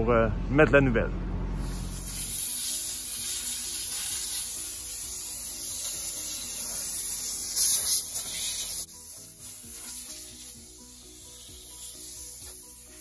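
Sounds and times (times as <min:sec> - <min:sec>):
steady hissing rub: 0:01.6 - 0:13.0.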